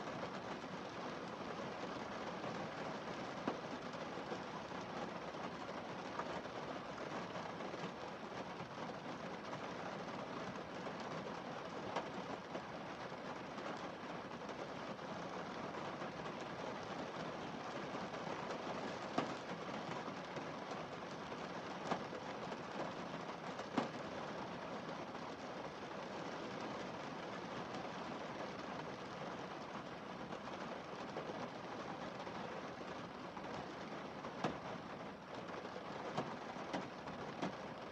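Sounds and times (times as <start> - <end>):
rain hissing on windscreen: 0.0 - 37.9.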